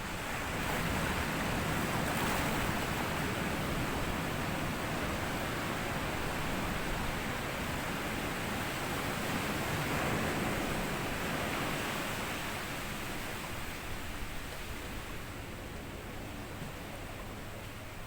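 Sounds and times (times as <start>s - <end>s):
sea waves on a beach: 0.0s - 18.0s.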